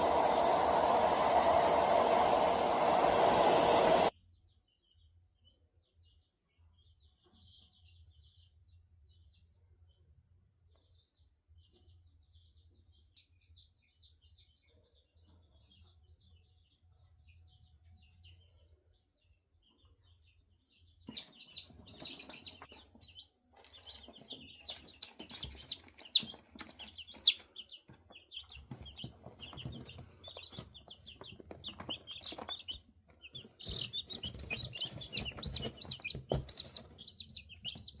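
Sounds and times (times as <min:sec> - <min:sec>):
many birds chirping: 0:00.0 - 0:10.0, 0:10.7 - 0:38.0.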